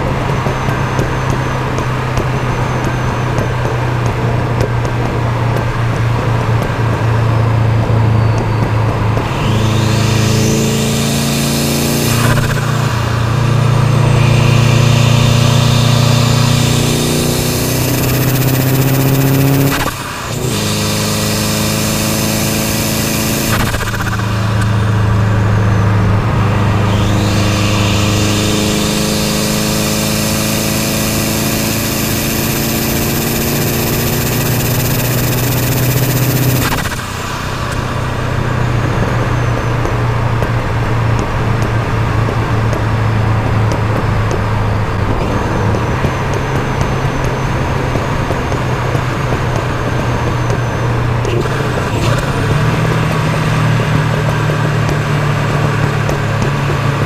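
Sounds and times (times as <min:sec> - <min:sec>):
car exhaust under acceleration: 0:00.0 - 0:57.0.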